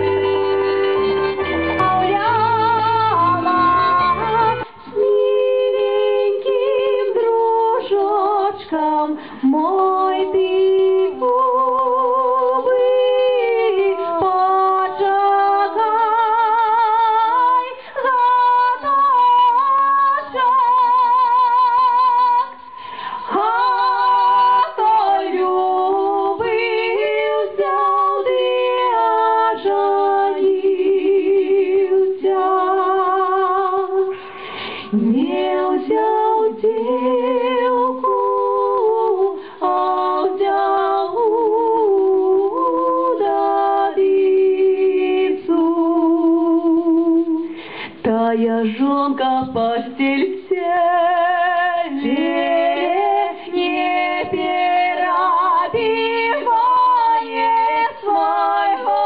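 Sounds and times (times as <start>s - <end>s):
women singing in harmony: 0.0s - 59.0s.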